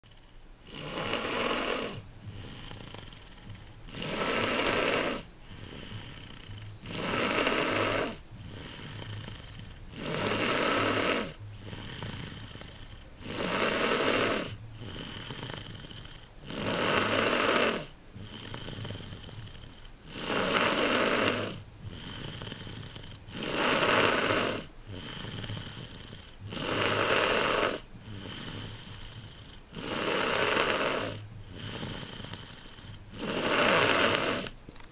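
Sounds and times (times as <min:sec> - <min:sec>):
person snoring: 0:00.0 - 0:34.6.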